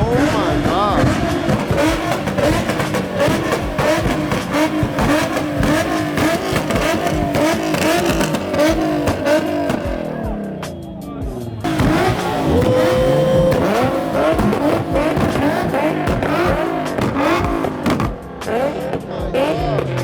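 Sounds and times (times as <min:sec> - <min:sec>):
car engine revving hard: 0:00.0 - 0:10.7, 0:11.3 - 0:20.0.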